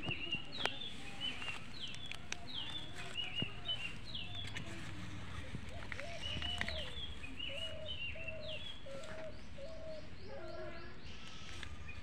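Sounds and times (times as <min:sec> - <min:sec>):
repeated low bird notes: 0:00.0 - 0:12.0.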